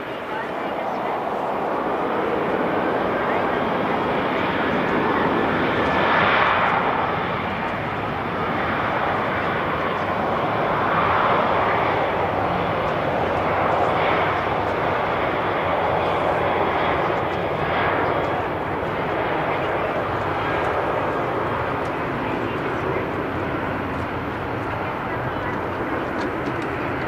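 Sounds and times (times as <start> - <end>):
airliner engines running: 0.0 - 27.0.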